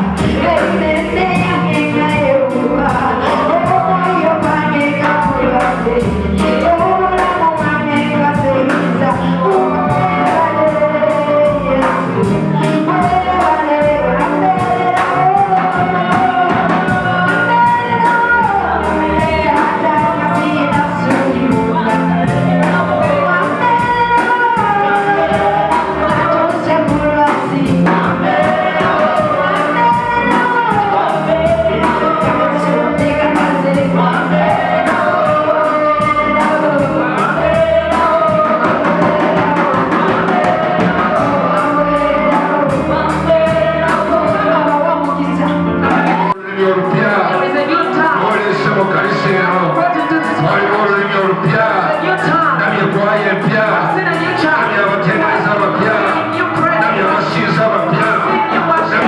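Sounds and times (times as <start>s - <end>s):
band playing: 0.0s - 59.0s
low bass line: 0.0s - 59.0s
steady drum beat: 0.0s - 59.0s
voices singing gospel: 0.0s - 59.0s.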